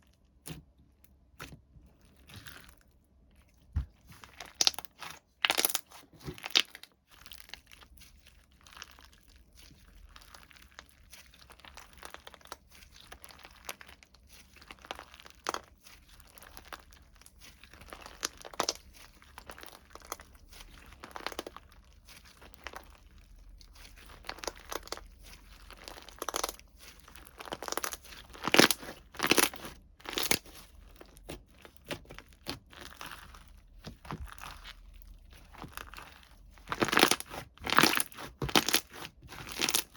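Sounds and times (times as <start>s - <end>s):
slime crackling and popping: 4.2s - 39.9s.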